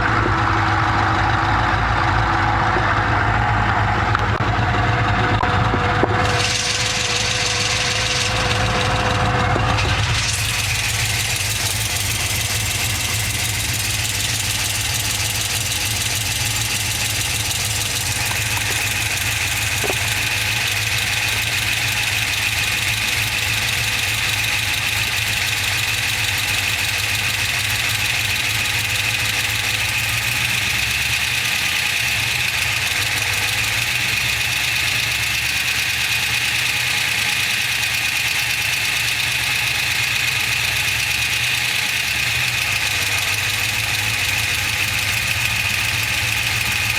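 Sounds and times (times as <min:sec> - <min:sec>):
car engine idling: 0:00.0 - 0:46.9
engine ticking: 0:00.0 - 0:46.9.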